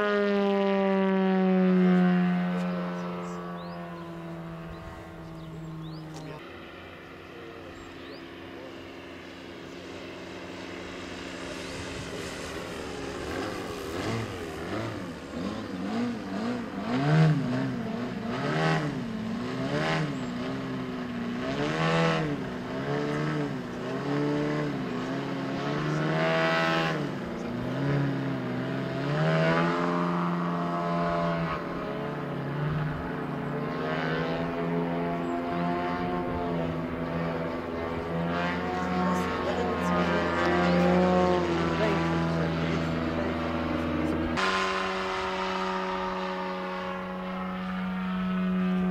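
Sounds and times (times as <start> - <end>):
model airplane engine drone: 0.0 - 48.9.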